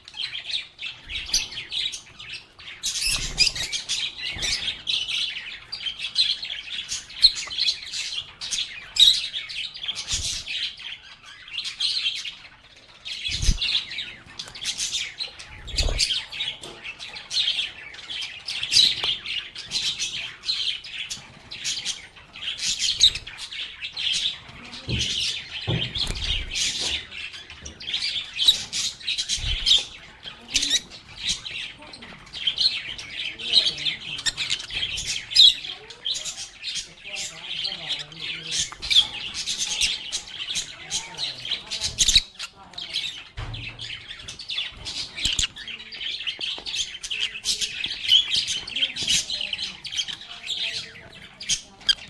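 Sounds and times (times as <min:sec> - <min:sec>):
lovebirds chirping and chattering: 0:00.0 - 0:52.0.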